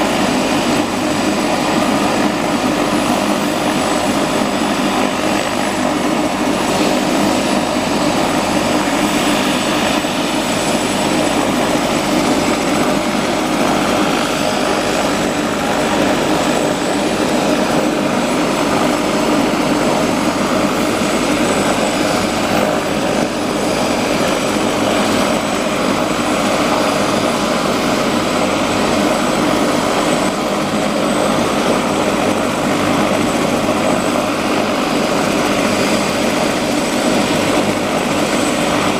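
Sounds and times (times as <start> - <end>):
helicopter rotor and engine: 0.0 - 38.9
high turbine whine: 0.0 - 38.9.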